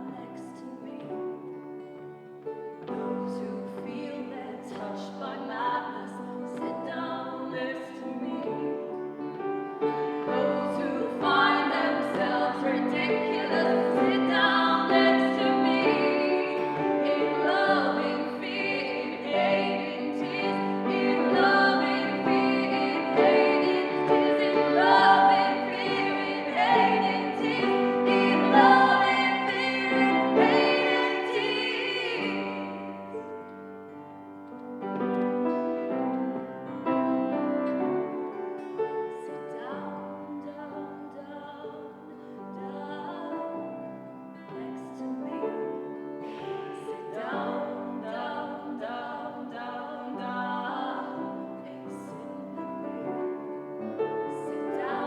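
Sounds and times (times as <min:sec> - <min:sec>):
women singing in harmony: 0:00.0 - 0:33.7, 0:36.8 - 0:55.0
acoustic guitar: 0:00.0 - 0:55.0.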